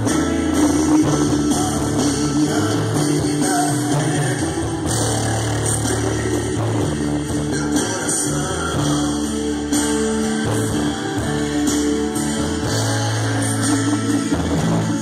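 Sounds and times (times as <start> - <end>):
loud gospel music with bass: 0.0 - 15.0
singing: 0.0 - 15.0.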